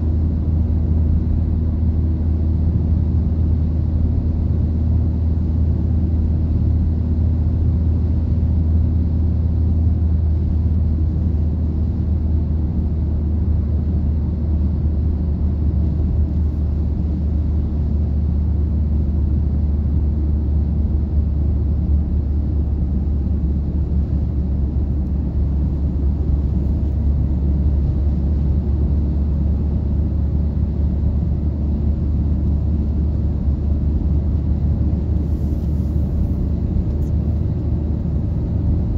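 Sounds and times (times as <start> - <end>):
car cabin road noise: 0.0 - 38.9.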